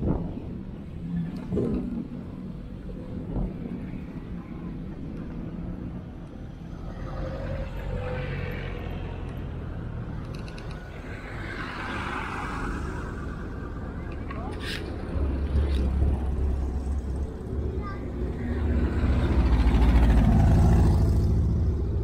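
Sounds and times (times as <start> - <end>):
jeep engines rumbling: 0.0 - 22.0.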